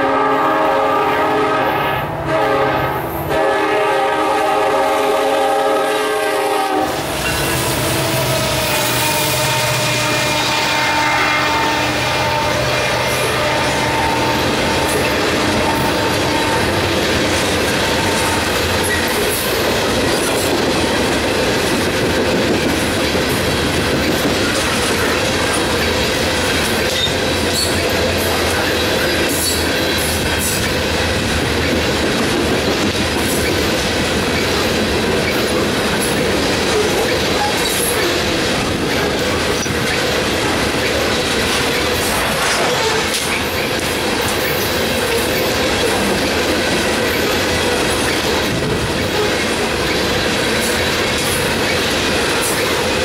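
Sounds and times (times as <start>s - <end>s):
train wheels clattering on rails: 3.4s - 53.0s.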